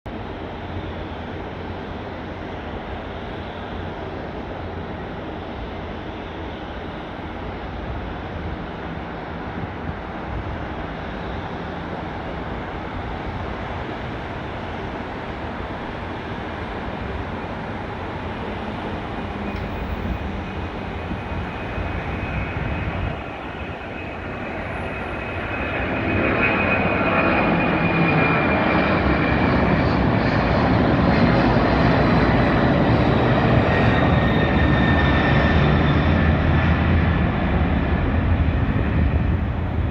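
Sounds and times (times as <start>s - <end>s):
jet engine rumble: 0.1s - 39.9s
high engine whine: 0.2s - 39.9s.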